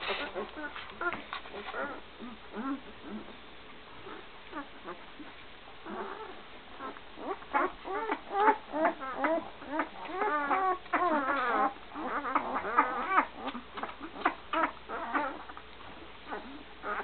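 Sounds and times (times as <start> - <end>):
puppies squeaking and whining: 0.0 - 17.0.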